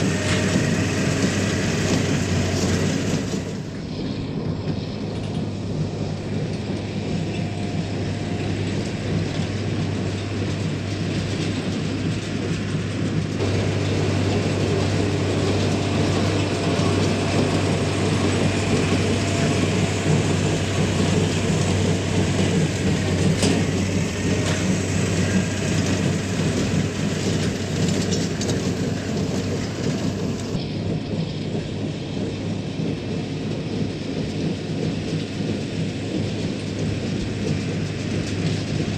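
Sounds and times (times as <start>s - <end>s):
baler mechanical rattling: 0.0s - 31.9s
tractor engine humming: 0.0s - 38.9s.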